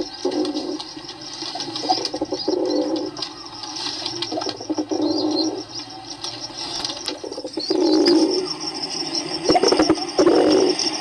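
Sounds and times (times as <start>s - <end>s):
faint high chirping: 0.0s - 11.0s
pigeons cooing: 0.0s - 11.0s.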